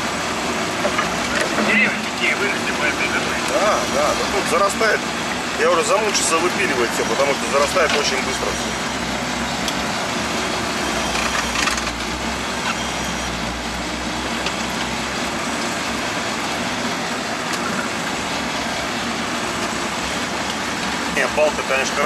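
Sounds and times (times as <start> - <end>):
constant wash of noise: 0.0 - 22.0
vehicle engine running: 0.0 - 22.0.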